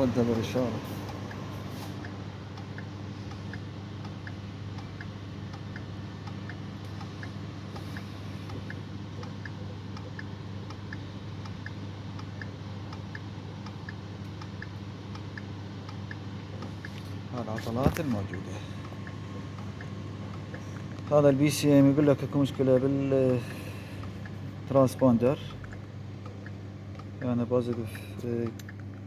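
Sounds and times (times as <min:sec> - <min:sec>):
faint regular ticking: 0:00.0 - 0:29.0
low electrical hum: 0:00.0 - 0:29.0.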